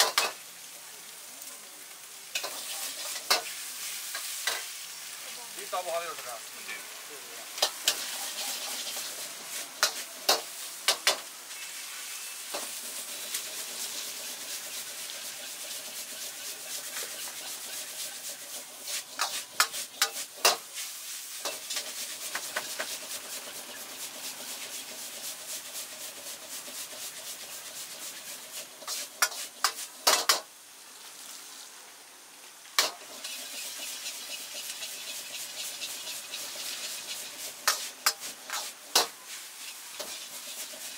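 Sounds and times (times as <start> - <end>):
food sizzling in a wok: 0.0 - 40.9
ladle scraping wok: 2.3 - 4.7, 7.6 - 30.4, 32.8 - 40.9.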